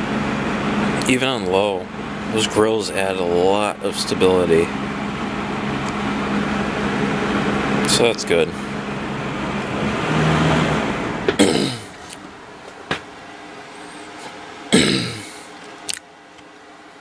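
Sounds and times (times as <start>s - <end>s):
box fan whirring: 0.0s - 17.0s.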